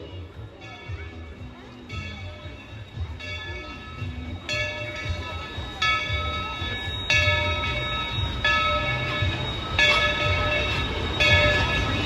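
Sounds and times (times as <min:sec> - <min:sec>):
low rumble of train: 0:00.0 - 0:12.0
steam locomotive bell ringing: 0:00.0 - 0:12.0.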